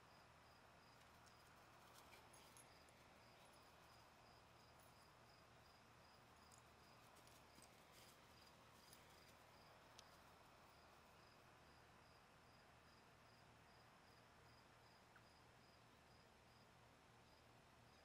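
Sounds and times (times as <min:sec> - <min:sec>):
crickets chirping faintly: 0:00.0 - 0:18.0.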